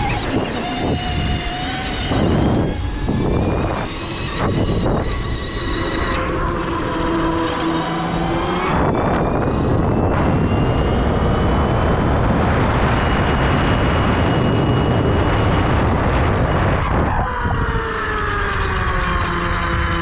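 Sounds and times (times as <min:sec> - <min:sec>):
electric motor whine: 0:00.0 - 0:20.0
wind rushing over microphone: 0:00.0 - 0:20.0.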